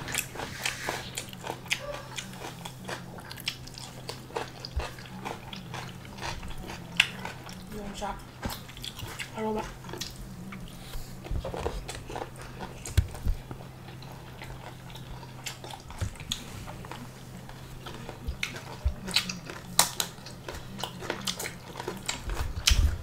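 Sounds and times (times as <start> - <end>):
steady low hum: 0.0 - 23.0
wet chewing with mouth clicks: 0.0 - 23.0.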